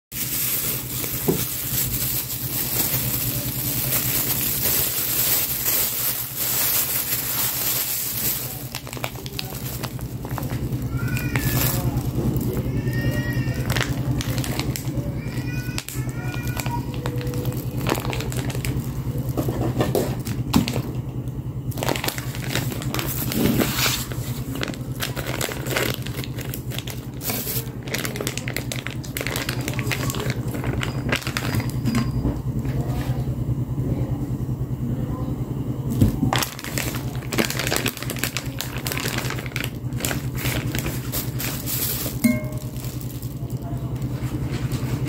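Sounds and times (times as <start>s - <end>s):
plastic packaging crinkling: 0.1s - 32.2s, 36.1s - 45.0s
steady low hum: 0.2s - 45.0s.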